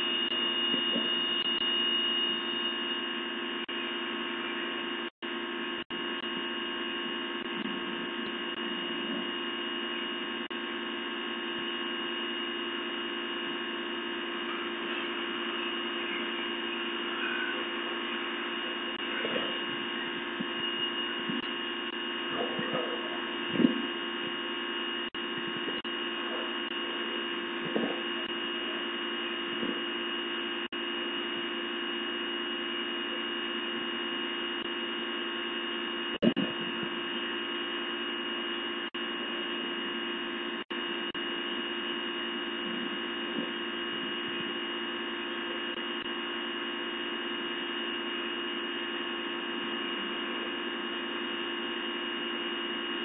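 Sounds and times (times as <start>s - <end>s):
electrical hum with high whine: 0.0s - 53.0s.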